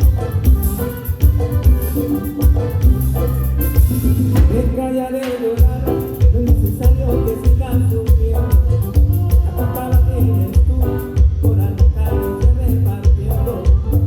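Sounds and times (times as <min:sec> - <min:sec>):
band playing latin song: 0:00.0 - 0:14.0
heavy bass notes: 0:00.0 - 0:14.0
steady drum beat: 0:00.0 - 0:14.0.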